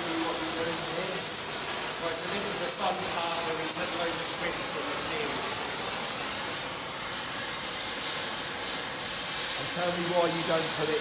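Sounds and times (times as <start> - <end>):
gas torch flame hissing: 0.0 - 11.0.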